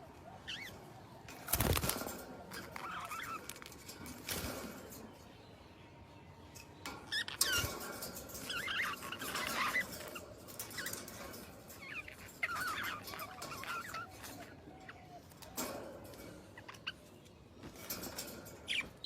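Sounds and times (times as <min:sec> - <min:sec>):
small birds twittering: 0:00.0 - 0:19.0.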